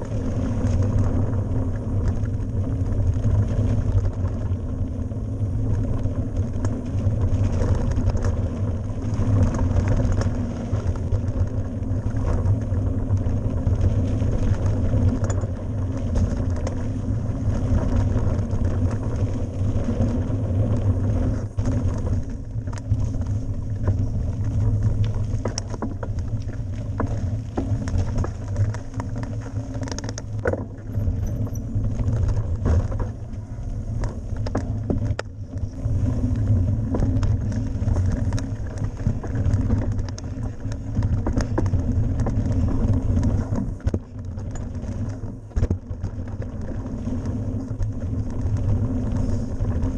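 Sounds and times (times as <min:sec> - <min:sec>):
bike rattles and knocks: 0:00.0 - 0:49.9
tyre noise on dirt: 0:00.0 - 0:49.9
wind buffeting microphone: 0:00.0 - 0:49.9.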